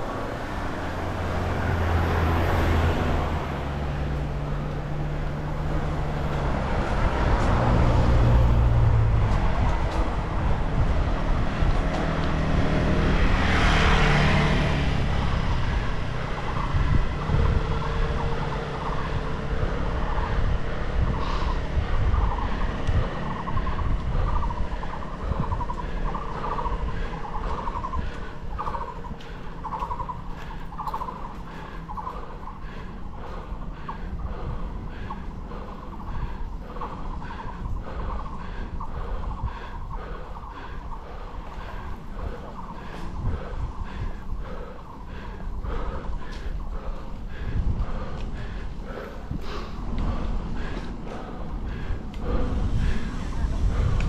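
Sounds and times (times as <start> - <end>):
bicycle road rumble: 0.0 - 54.0
car passing: 0.0 - 54.0
wind noise: 0.0 - 54.0.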